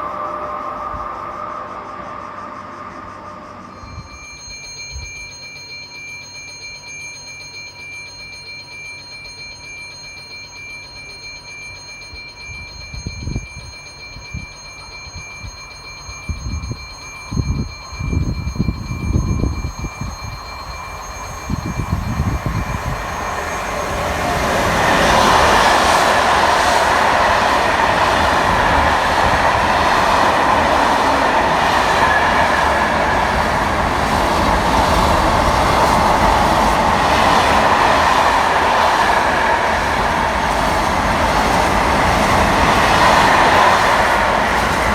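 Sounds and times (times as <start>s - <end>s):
train rushing by: 0.0s - 5.7s, 12.4s - 44.9s
high-pitched train whine: 0.0s - 44.9s.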